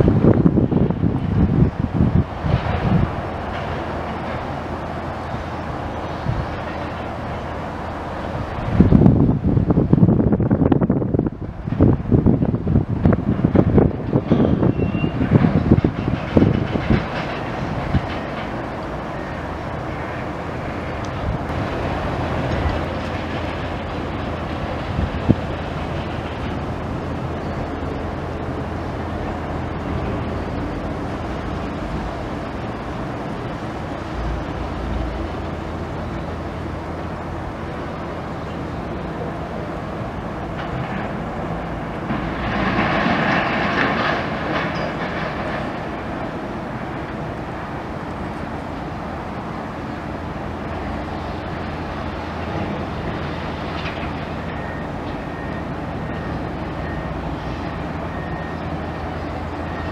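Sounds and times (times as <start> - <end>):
heavy mechanical rumble: 0.0 - 59.9.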